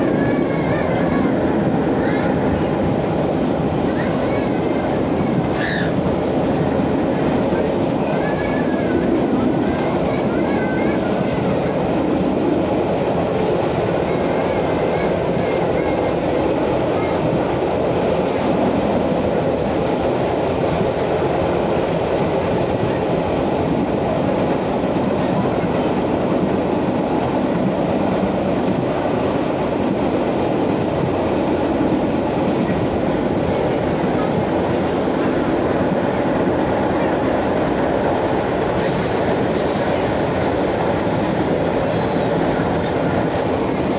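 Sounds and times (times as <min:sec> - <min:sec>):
clickety-clack over rail joints: 0:00.0 - 0:43.9
train wheels rumbling on rail: 0:00.0 - 0:43.9.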